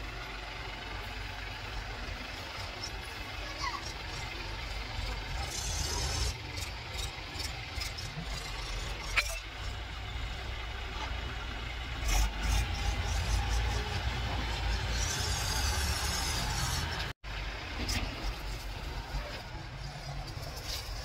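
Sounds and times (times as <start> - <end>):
tractor engine revving: 0.0 - 17.2.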